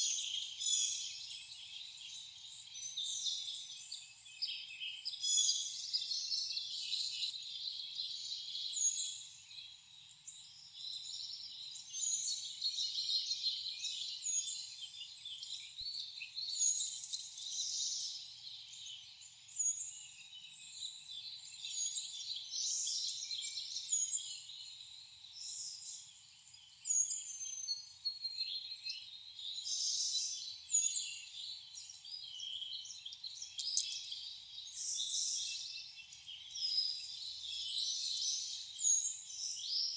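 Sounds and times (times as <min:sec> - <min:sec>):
songbirds chirping and calling: 0:00.0 - 0:39.9.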